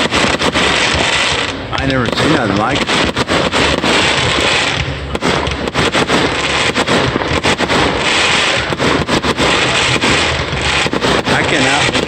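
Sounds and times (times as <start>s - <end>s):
fireworks bangs and crackle: 0.0s - 12.0s.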